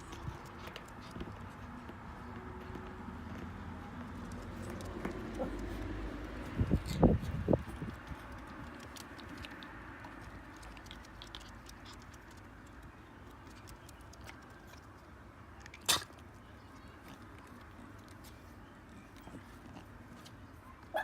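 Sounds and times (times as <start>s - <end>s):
paws and claws clicking: 0.0s - 21.0s.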